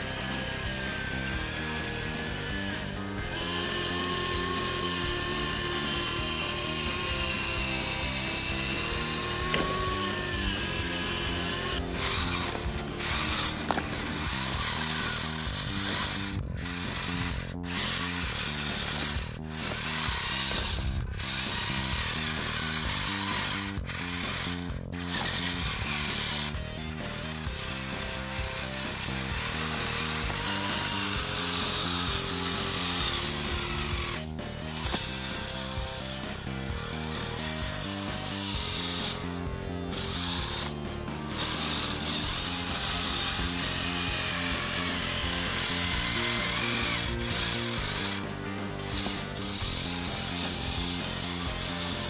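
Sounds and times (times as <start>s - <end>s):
background music: 0.0s - 52.0s
small electric motors whining: 0.0s - 52.0s.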